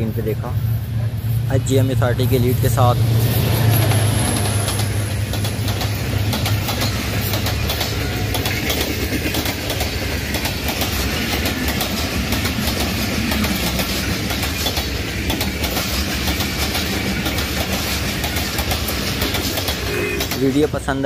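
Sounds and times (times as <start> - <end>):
train wheels clattering over rail joints: 1.9 - 20.9.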